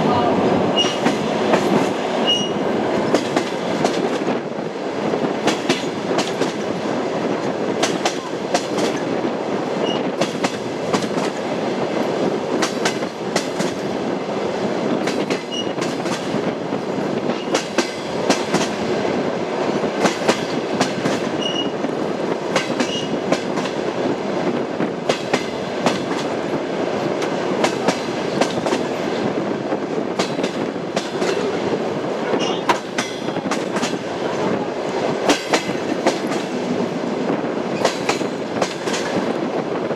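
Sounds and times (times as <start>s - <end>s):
train wheels clattering over rail joints: 0.8s - 4.4s, 5.1s - 6.8s, 7.4s - 9.2s, 9.8s - 11.5s, 12.6s - 14.0s, 14.9s - 18.9s, 19.9s - 31.5s, 32.4s - 34.1s, 34.9s - 39.6s.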